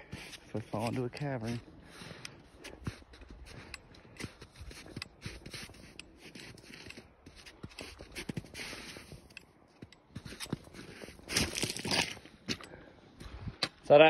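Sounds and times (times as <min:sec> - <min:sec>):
footsteps on snow and scree: 0:00.0 - 0:12.7.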